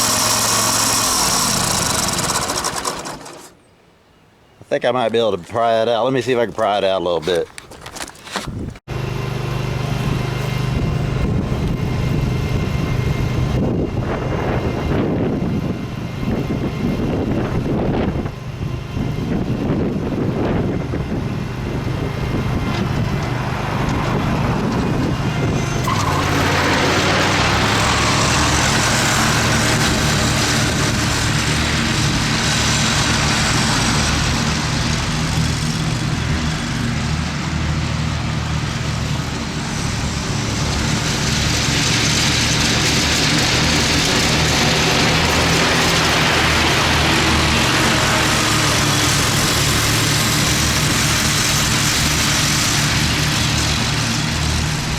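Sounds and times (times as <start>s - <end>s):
mower engine running: 0.0s - 3.7s, 5.6s - 54.9s.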